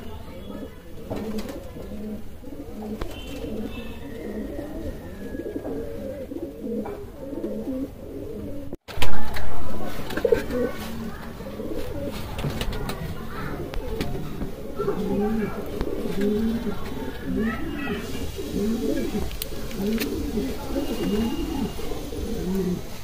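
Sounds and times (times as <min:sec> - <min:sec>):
pigeons cooing: 0:00.0 - 0:08.8, 0:09.9 - 0:23.0.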